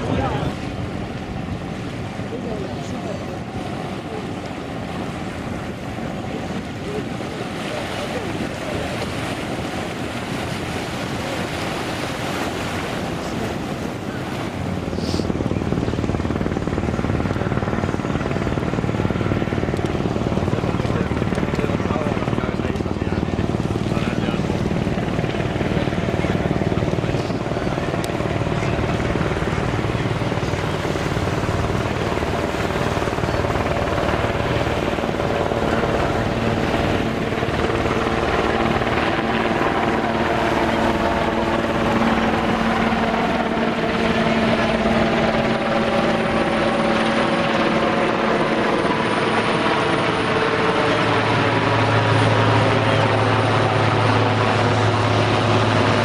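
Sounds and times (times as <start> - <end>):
helicopter flying past: 0.0 - 56.0.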